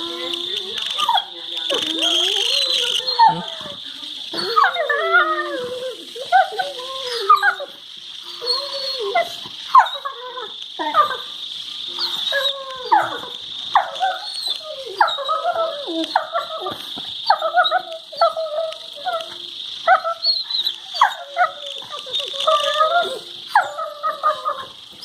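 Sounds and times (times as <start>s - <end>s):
dogs whining and moaning: 0.0s - 25.0s
dogs yipping: 0.0s - 25.0s.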